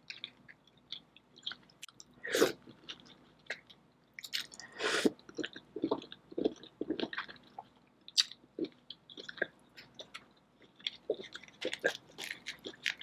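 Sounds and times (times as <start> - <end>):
wet chewing and mouth smacks: 0.0 - 13.0.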